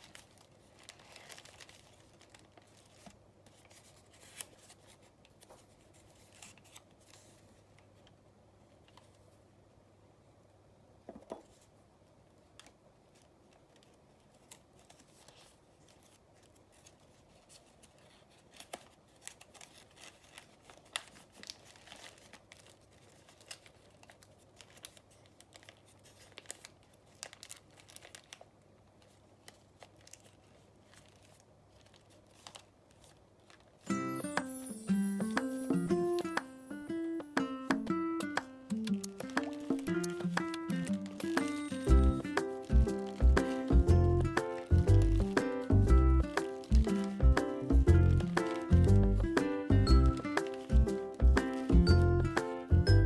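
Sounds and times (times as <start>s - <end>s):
paper rustling and crinkling: 0.0s - 9.4s, 11.4s - 36.8s, 37.8s - 52.7s.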